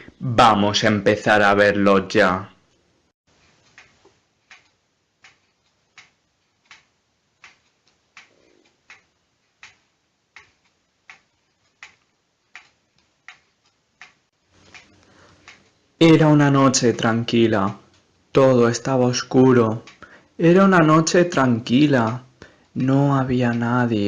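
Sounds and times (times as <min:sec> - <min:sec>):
faint mechanical ticking: 0:02.6 - 0:24.0.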